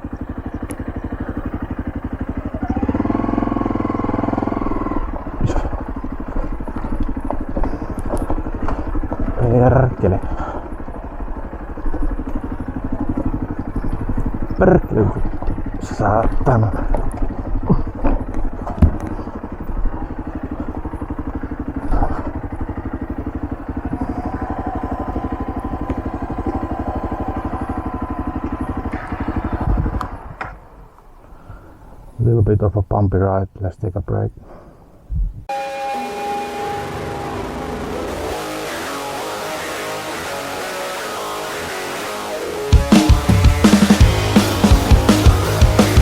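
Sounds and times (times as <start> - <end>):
motorcycle engine revving: 0.0 - 30.9, 35.5 - 46.0.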